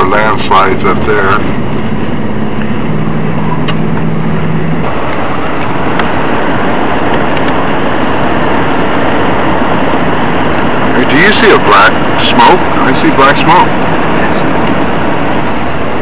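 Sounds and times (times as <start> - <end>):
car driving on highway: 0.0 - 16.0
low hum: 0.0 - 16.0.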